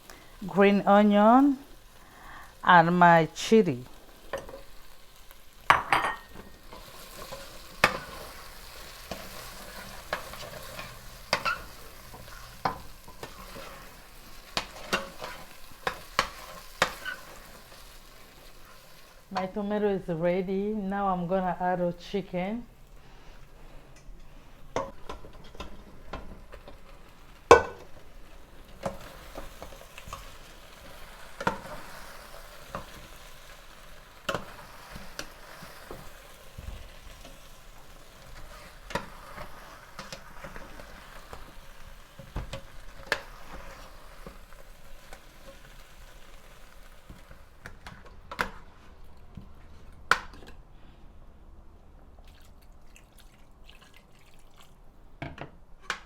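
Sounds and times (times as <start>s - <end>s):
sauce sizzling in a pot: 0.0s - 49.4s.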